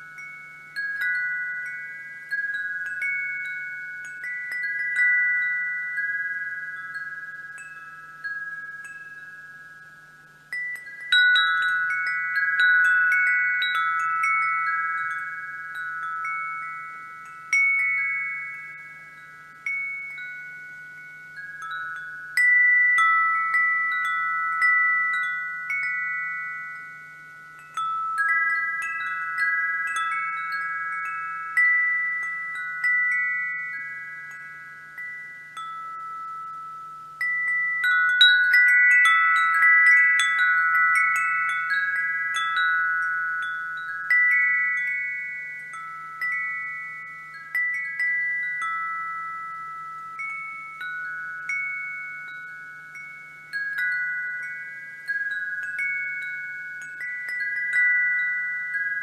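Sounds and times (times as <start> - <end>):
wind chimes ringing: 0.0 - 59.0.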